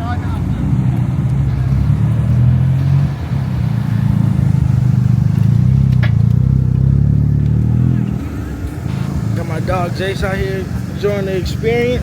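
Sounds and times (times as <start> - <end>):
loud engine exhaust pulsing: 0.0 - 12.0.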